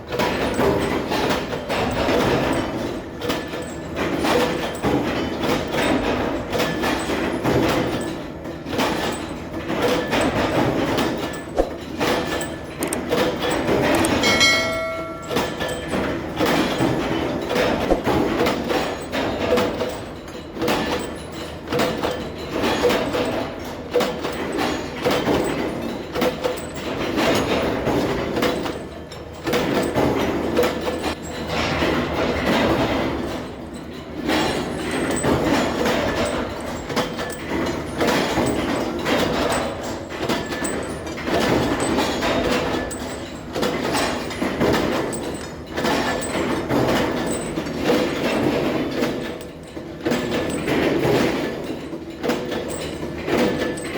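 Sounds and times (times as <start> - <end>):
machinery clattering: 0.0 - 53.9.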